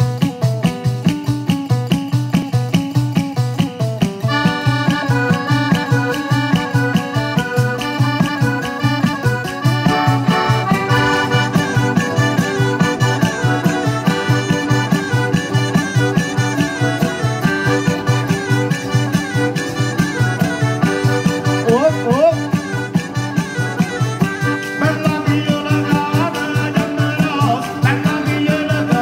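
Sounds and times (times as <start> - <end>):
accordion: 0.0 - 29.0
acoustic guitar: 0.0 - 29.0
fast drum beat: 0.0 - 29.0.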